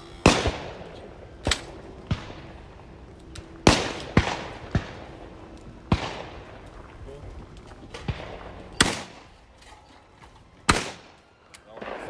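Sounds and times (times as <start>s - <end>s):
shotgun shots: 0.0s - 9.7s, 10.6s - 12.0s.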